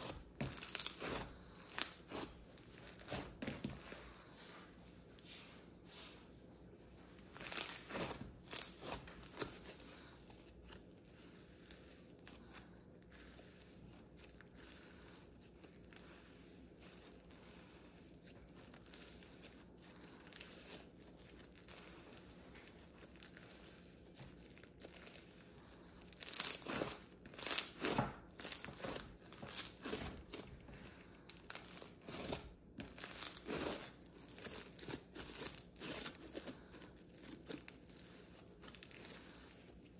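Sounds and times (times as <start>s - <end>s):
slime crackling and popping: 0.0s - 3.9s, 7.1s - 39.6s
slime squishing: 0.0s - 6.1s, 6.8s - 39.9s.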